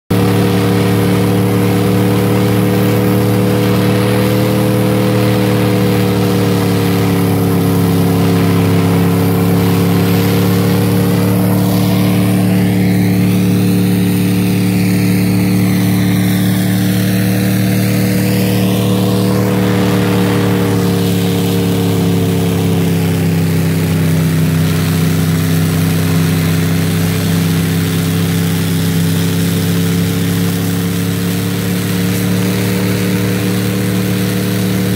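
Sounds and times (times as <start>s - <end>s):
snowcat engine running: 0.0s - 34.9s.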